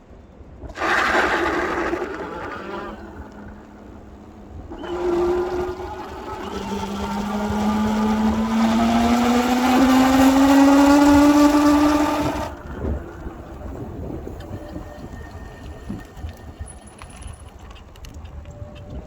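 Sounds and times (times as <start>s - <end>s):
electric bike motor whining: 0.6s - 19.0s.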